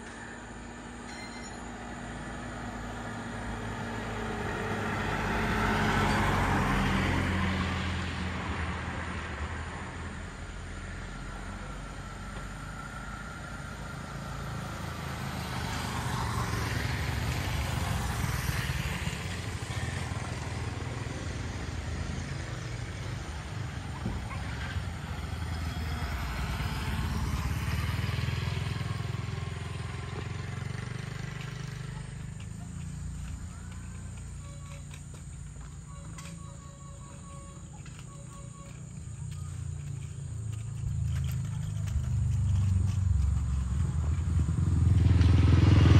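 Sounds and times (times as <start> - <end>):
low traffic rumble: 0.0 - 45.9
motorcycles passing: 1.8 - 45.9.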